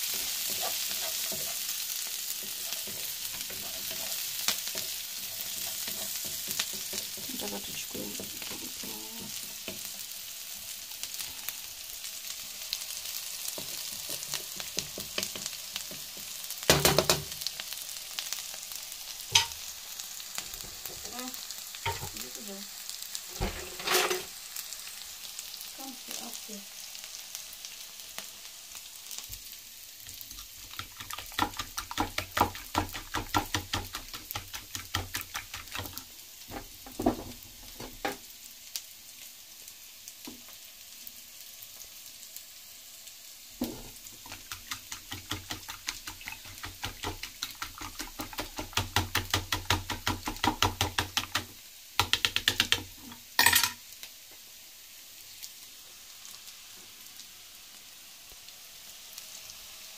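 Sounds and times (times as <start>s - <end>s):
vegetables sizzling in oil: 0.0s - 59.9s.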